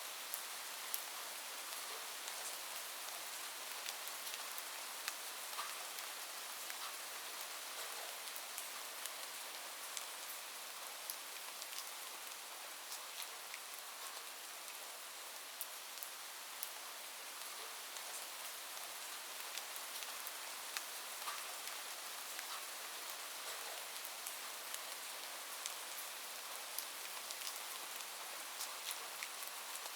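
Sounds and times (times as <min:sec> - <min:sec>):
light rain falling: 0:00.0 - 0:29.9.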